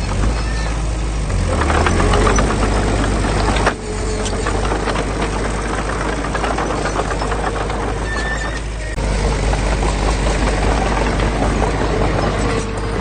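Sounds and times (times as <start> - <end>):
diesel engine rumble: 0.0 - 13.0
metallic clatter: 0.0 - 13.0.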